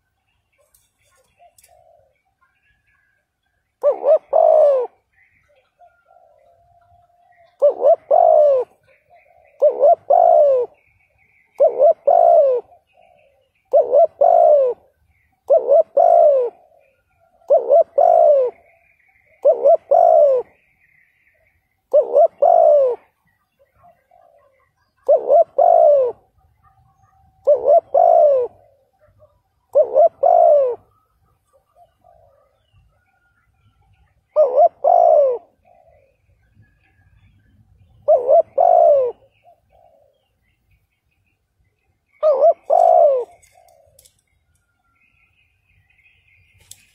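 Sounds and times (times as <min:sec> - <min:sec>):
dove cooing: 0:00.0 - 0:20.8, 0:21.4 - 0:40.6, 0:42.1 - 0:44.2.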